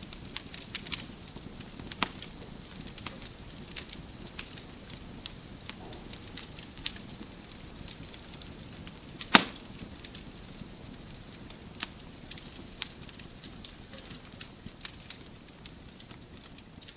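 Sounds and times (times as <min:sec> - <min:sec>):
loud fire snap: 0:00.0 - 0:16.9
wood fire crackling: 0:00.0 - 0:16.9.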